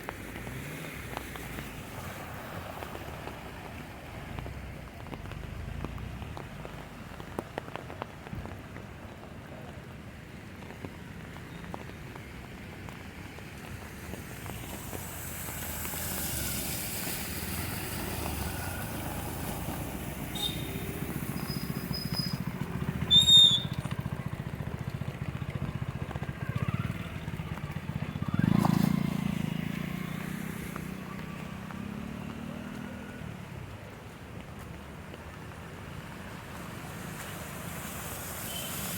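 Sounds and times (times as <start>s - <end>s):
vehicles passing on flooded street: 0.0s - 38.9s.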